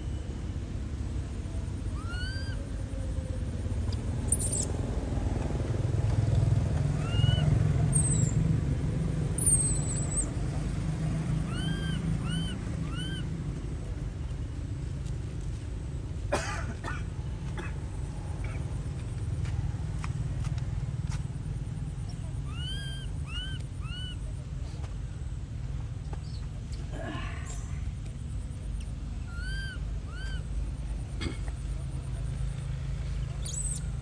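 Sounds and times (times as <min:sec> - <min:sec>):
motor vehicle rumble: 0:00.0 - 0:34.0.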